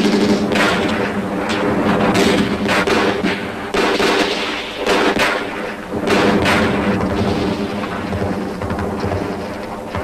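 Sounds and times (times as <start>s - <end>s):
continuous dense rumble: 0.0s - 10.0s
explosions: 0.0s - 10.0s
gunfire: 0.0s - 10.0s.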